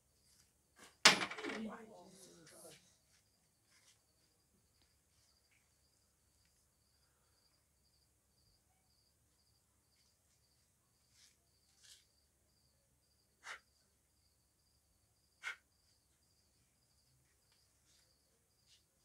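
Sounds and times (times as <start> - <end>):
crickets chirping: 1.6 - 19.0.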